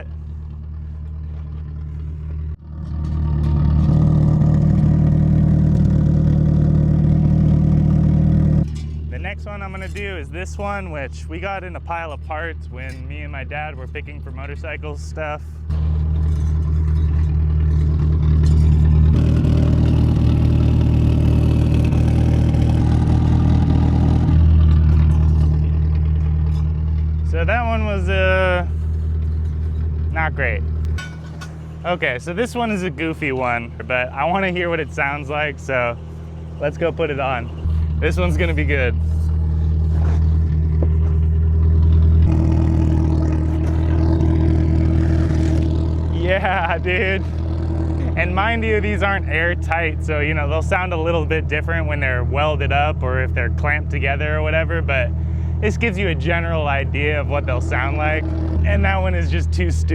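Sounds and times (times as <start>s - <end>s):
car engine exhaust note: 0.0s - 59.9s.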